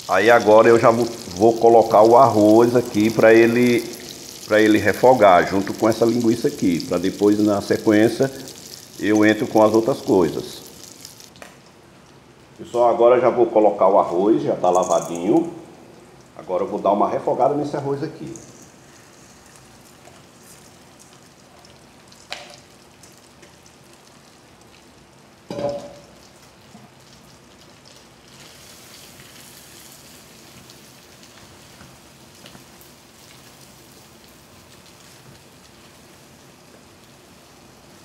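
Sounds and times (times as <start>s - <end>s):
rice sizzling in a pot: 0.0s - 12.8s, 17.6s - 38.0s.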